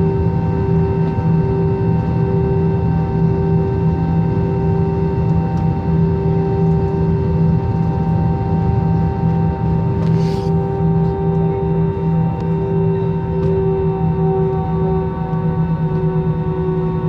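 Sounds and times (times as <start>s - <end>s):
jet engines droning in cabin: 0.0s - 17.0s
throbbing low hum: 0.0s - 17.0s.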